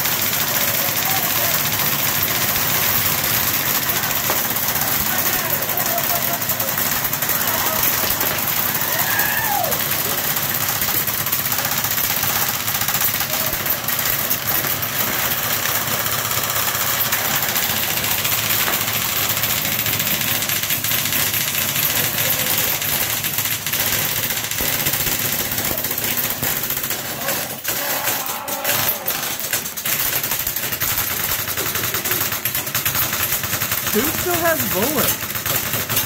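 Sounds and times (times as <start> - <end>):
airsoft guns firing full auto: 0.0 - 36.0.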